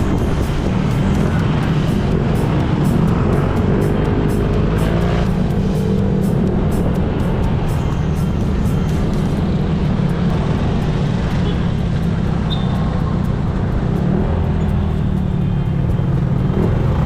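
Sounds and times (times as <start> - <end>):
motorcycle engine: 0.0 - 17.0
road noise: 0.0 - 17.0.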